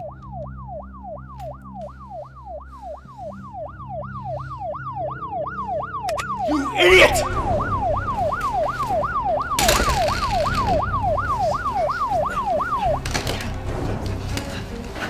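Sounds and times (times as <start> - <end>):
police siren yelping: 0.0 - 14.9.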